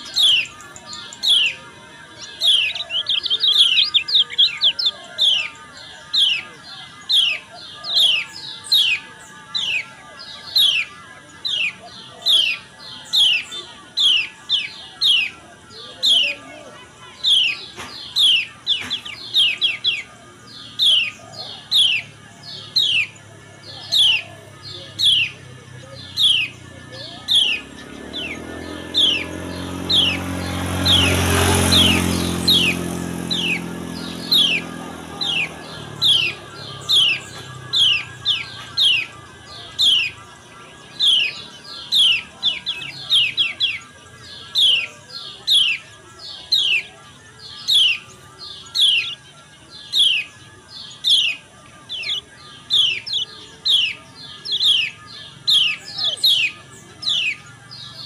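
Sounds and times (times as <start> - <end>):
bird call notes: 0.0 - 58.0
motor vehicle passing: 0.0 - 58.0.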